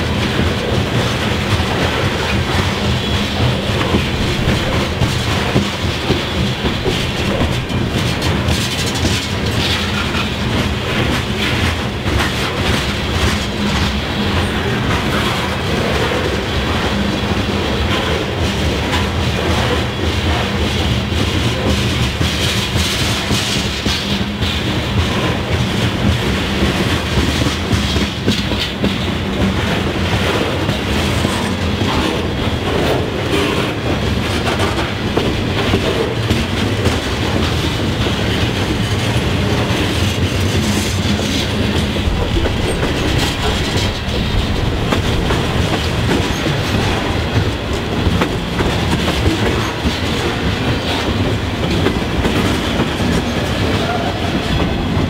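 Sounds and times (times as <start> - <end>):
clickety-clack over rail joints: 0.0 - 55.0
steel wheels on rail: 0.0 - 55.0.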